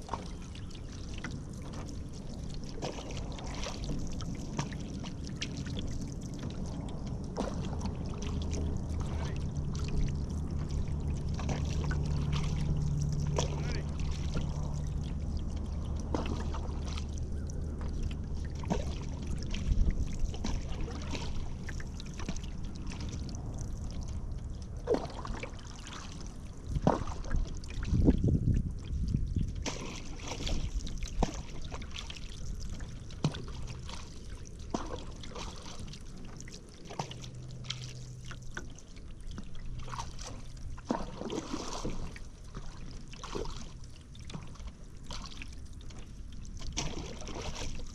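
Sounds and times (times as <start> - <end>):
paddle splashing in water: 0.0 - 47.9
water trickling off paddle: 0.0 - 47.9.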